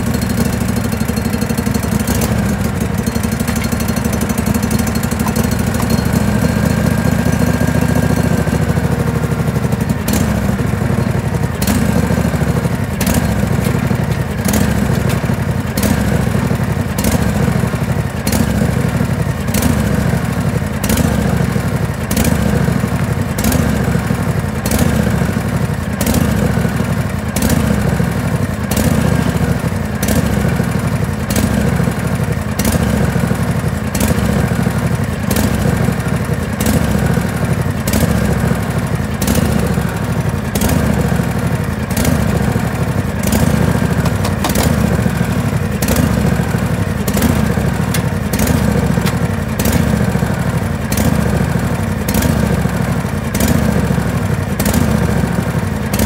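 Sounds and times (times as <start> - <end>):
lawn tractor engine idling: 0.0 - 56.0.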